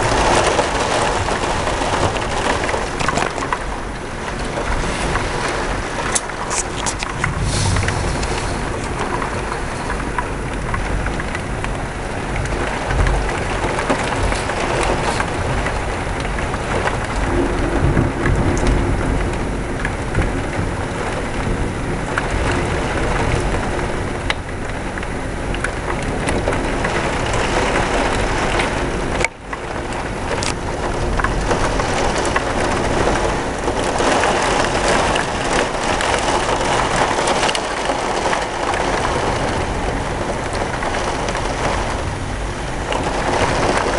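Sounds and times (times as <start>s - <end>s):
heavy rain pouring: 0.0s - 43.9s
low rumbling thunder: 0.0s - 43.9s.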